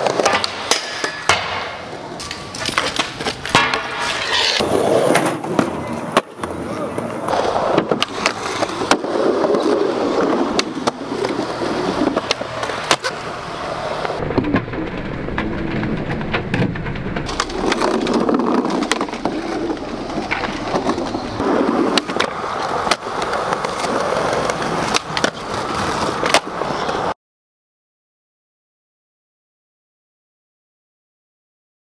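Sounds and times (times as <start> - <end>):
skateboard clacking on ground: 0.0 - 27.2
skateboard wheels rolling: 0.0 - 27.2.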